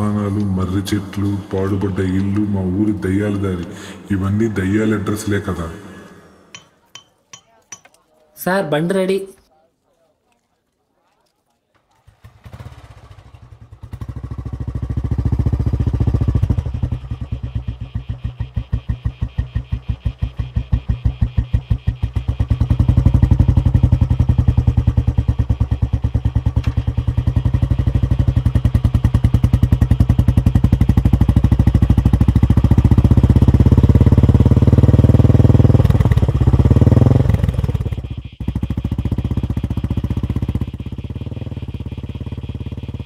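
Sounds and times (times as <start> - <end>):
motorcycle engine: 0.0 - 8.0, 11.8 - 43.0.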